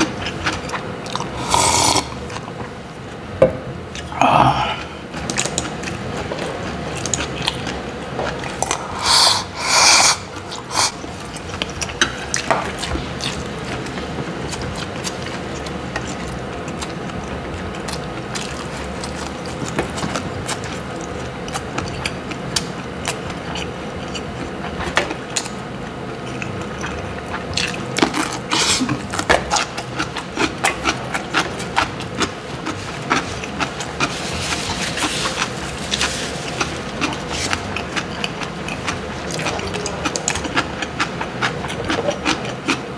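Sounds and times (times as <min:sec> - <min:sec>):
chewing: 0:00.0 - 0:02.6, 0:03.9 - 0:42.9
steady low hum: 0:00.0 - 0:42.9.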